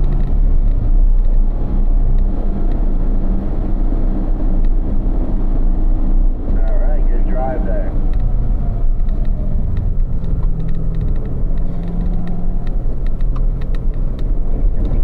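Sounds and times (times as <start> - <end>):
low road rumble: 0.0 - 15.0
sports car engine: 0.0 - 15.0.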